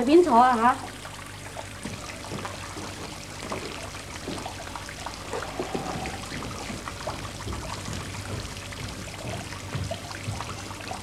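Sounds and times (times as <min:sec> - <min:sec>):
fountain splashing and trickling: 0:00.0 - 0:11.0
low steady hum: 0:00.0 - 0:11.0.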